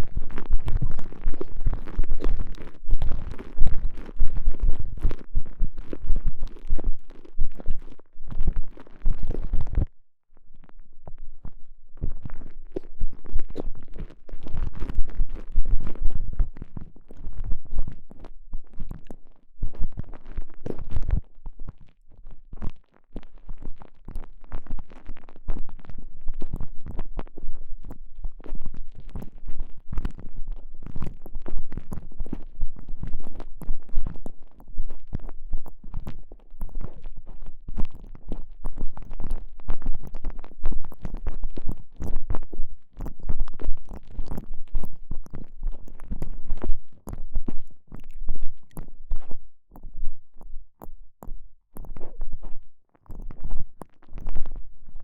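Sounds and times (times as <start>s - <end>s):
squishing and rubbing on microphone: 0.0s - 55.0s.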